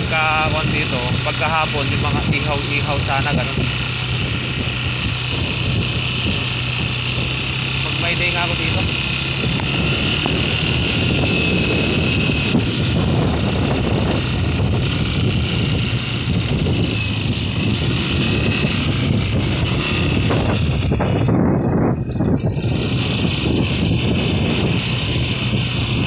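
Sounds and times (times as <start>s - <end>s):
scooter engine running: 0.0s - 26.0s
wind buffeting microphone: 0.0s - 26.0s.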